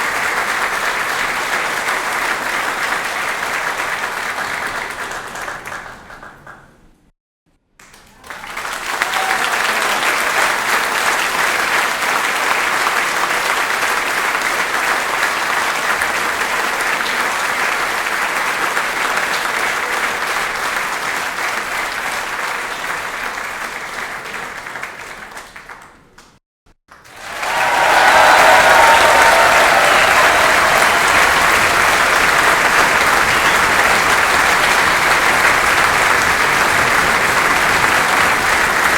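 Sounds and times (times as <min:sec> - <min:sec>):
audience applause: 0:00.0 - 0:06.8, 0:07.8 - 0:26.1, 0:26.9 - 0:38.9.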